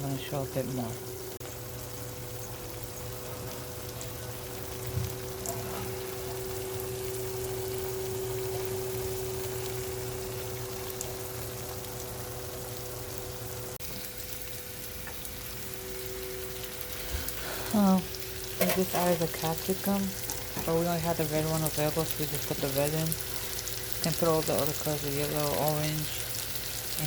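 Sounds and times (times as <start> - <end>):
chicken sizzling in a pan: 0.0 - 27.0
steady hum: 0.0 - 27.0.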